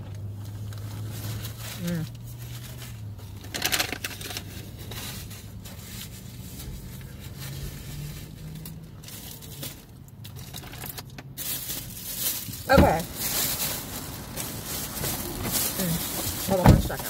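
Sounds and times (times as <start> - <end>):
paper wrapper crinkling: 0.4 - 17.0.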